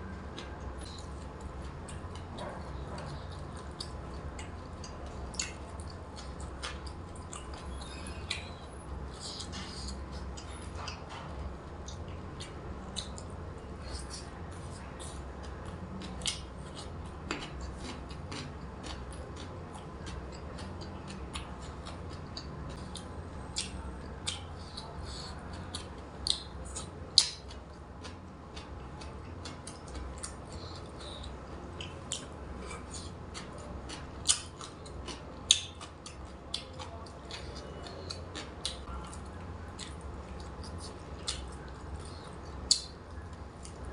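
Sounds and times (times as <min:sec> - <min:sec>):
chewing and lip smacks: 0:00.1 - 0:43.9.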